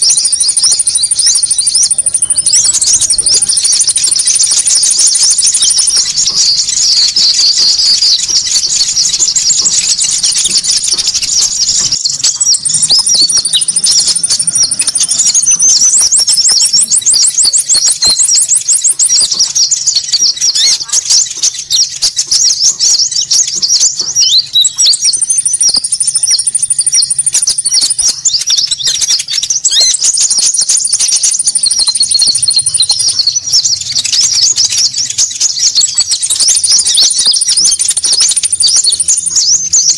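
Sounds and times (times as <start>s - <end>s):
high rapid bird trills: 0.0s - 39.9s
small birds chirping chorus: 0.0s - 39.9s.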